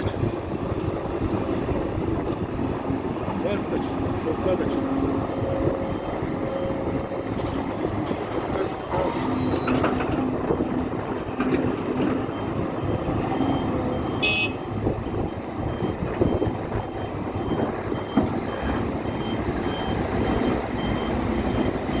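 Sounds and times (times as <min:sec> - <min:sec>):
heavy diesel machinery running: 0:00.0 - 0:22.0.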